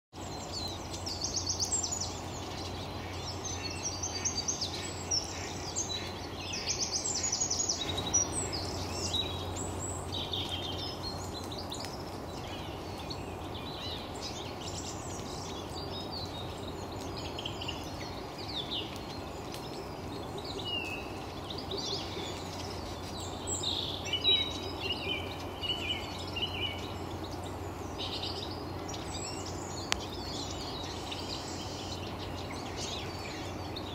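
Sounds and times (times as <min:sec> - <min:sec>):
birds twittering: 0:00.2 - 0:33.9.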